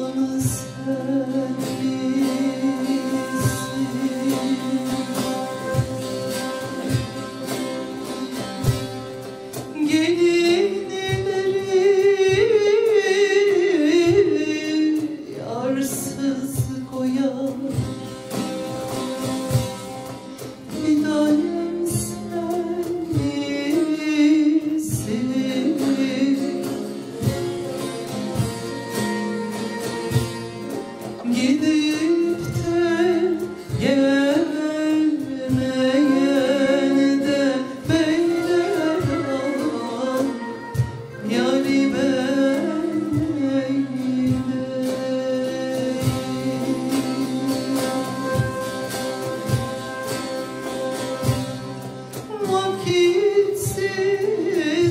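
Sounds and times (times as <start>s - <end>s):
person singing: 0.0s - 19.6s, 20.4s - 54.9s
plucked string instruments: 0.0s - 54.9s.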